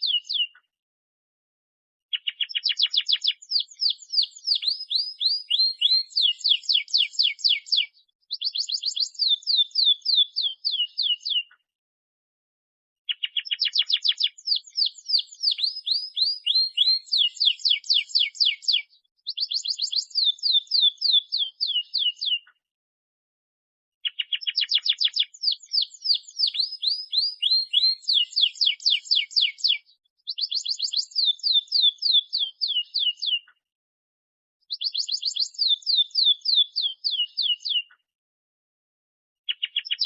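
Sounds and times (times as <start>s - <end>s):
canary singing trills: 0.0s - 0.6s, 2.1s - 11.6s, 13.1s - 22.5s, 24.0s - 33.6s, 34.7s - 38.0s, 39.5s - 40.0s.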